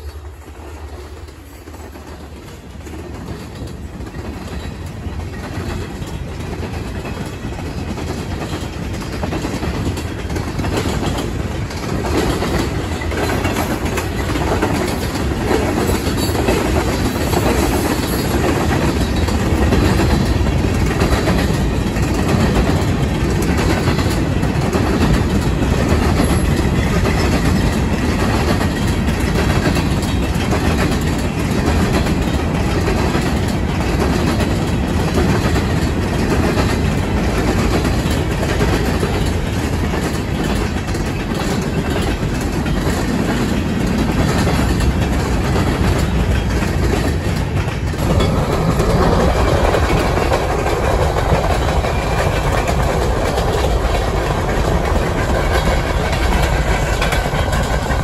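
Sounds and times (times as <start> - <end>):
freight train rumbling past: 0.0 - 58.0
wheels clicking over rail joints: 0.0 - 58.0.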